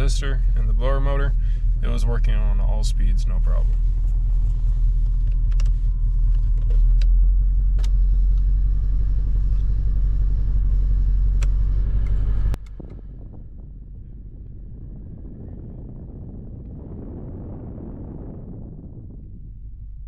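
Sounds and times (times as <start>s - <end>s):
car engine rumbling: 0.0s - 20.0s
quiet steady rumble: 0.0s - 20.0s.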